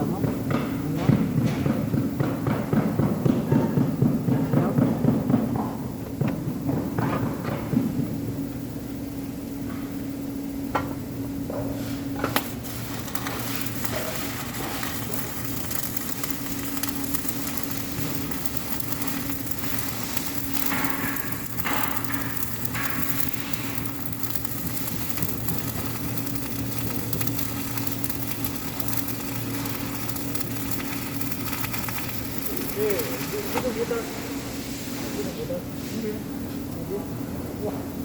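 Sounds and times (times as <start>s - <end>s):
welding arc crackling and sizzling: 0.0s - 38.0s.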